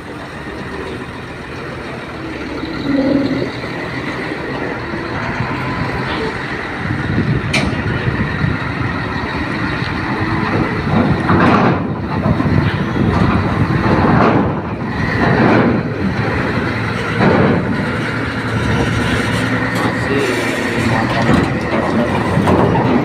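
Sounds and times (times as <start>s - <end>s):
heavy vehicle engines running: 0.0s - 23.0s.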